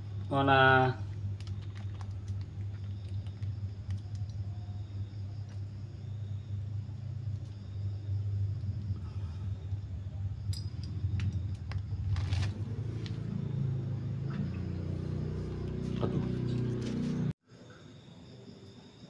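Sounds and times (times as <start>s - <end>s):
low hum: 0.0s - 17.4s.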